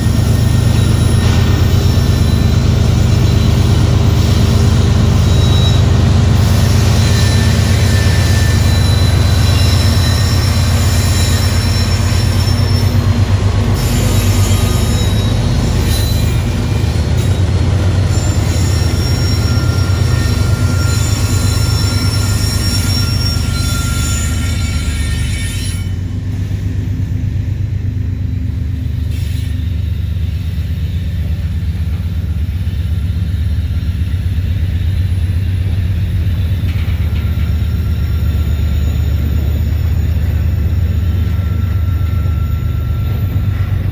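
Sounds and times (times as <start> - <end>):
high wheel squeals: 0.0 - 26.1, 34.9 - 43.9
diesel locomotive low rumble: 0.0 - 43.9.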